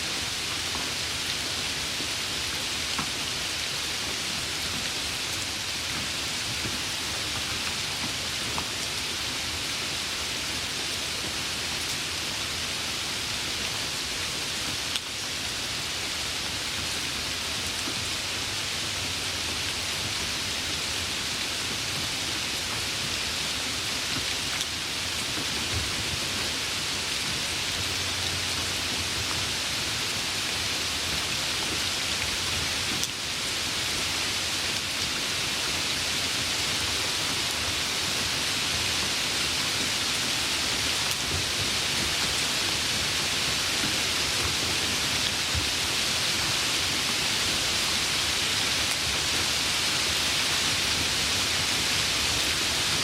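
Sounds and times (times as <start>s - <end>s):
steady rainfall: 0.0s - 53.0s.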